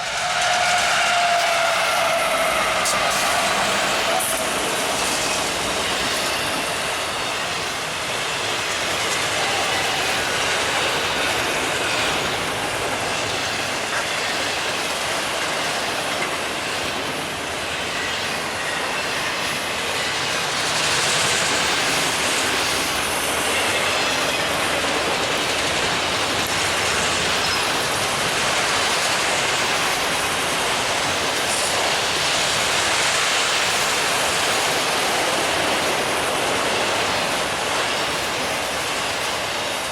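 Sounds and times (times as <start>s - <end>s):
freight train passing: 0.0s - 39.9s.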